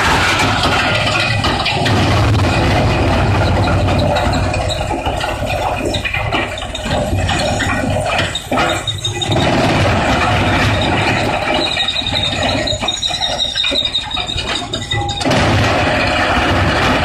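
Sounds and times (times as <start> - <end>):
high-pitched squeal: 0.0 - 17.0
wood crusher grinding: 0.0 - 17.0.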